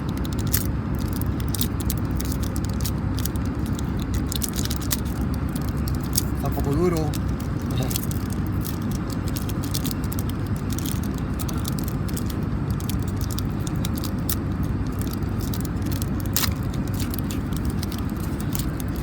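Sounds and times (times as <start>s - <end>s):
airliner cabin drone: 0.0s - 19.0s
foil pack crinkling: 0.0s - 19.0s.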